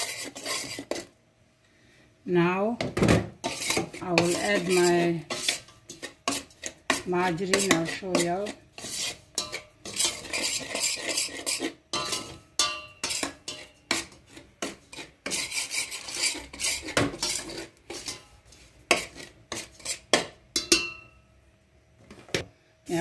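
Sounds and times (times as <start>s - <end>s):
spoon scraping semolina in pot: 0.0s - 1.2s, 3.4s - 20.8s.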